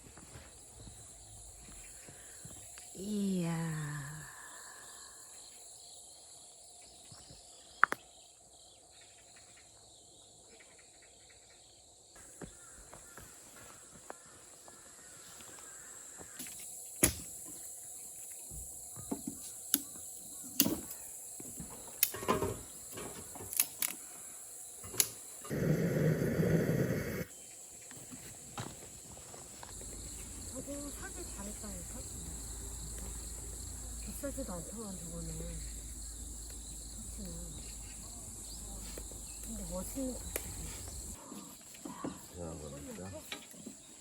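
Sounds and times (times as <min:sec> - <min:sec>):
crickets chirring: 0:00.0 - 0:44.0.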